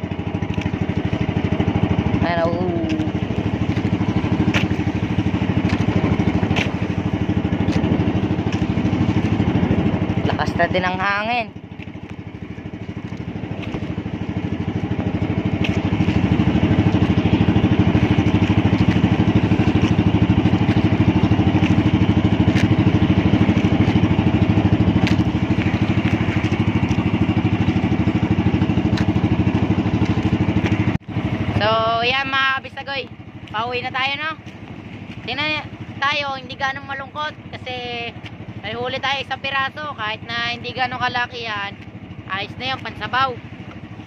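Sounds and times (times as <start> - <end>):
small boat engine running: 0.0 - 44.0
water noise: 0.0 - 44.0
wind: 0.0 - 44.0.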